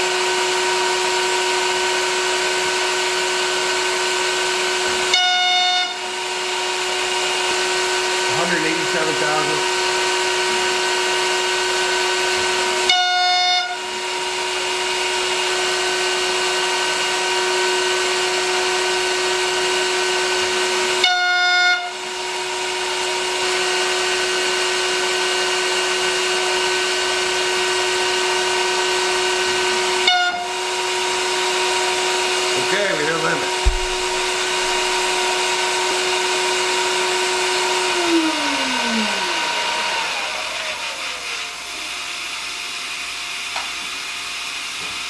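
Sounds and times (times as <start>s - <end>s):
router spindle high whine: 0.0s - 44.8s.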